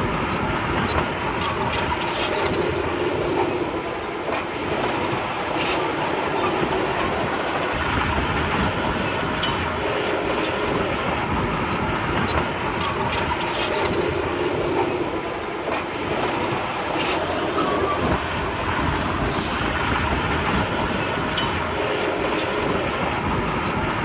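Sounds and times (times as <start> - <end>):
tracks clanking and clicking: 0.0 - 24.0.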